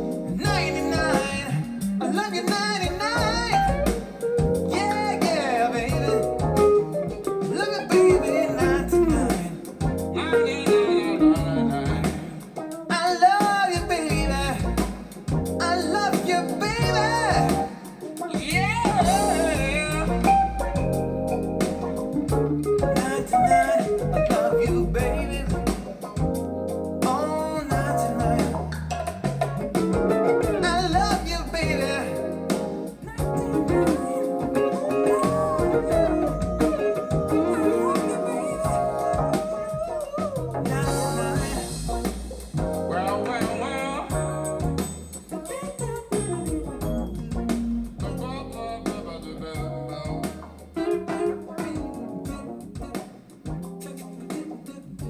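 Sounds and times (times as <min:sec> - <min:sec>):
jazz blues song over loudspeakers: 0:00.0 - 0:55.0.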